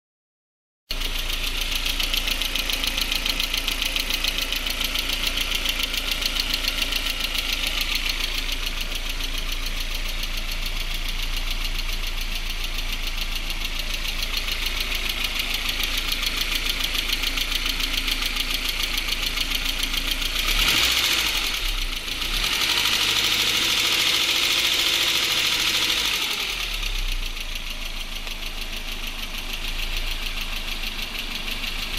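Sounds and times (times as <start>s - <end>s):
engine running and revving: 0.9s - 31.9s
fast engine knocking: 0.9s - 31.9s.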